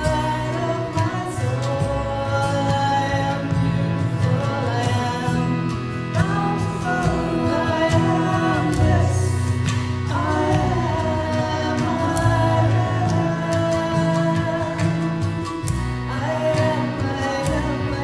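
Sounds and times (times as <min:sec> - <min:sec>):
acoustic guitar: 0:00.0 - 0:18.0
hand drum pulse: 0:00.0 - 0:18.0
harmonium chords: 0:00.0 - 0:18.0
man and woman singing: 0:00.0 - 0:18.0.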